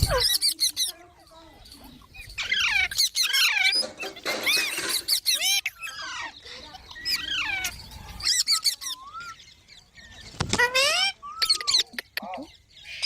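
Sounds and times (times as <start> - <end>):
parrot chirping and squeaking: 0.0 - 9.6, 10.2 - 13.0.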